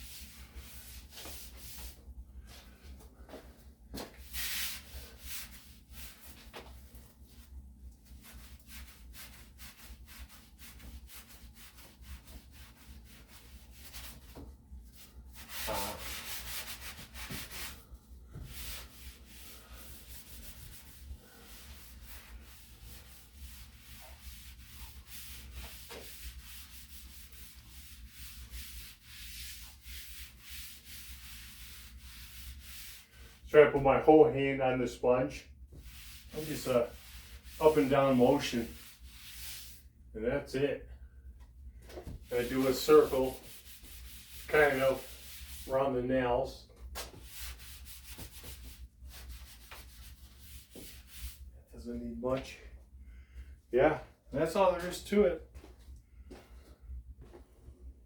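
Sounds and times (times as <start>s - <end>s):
damp sponge rubbing wall: 0.0s - 34.2s, 35.7s - 40.0s, 41.8s - 46.1s, 46.8s - 51.6s.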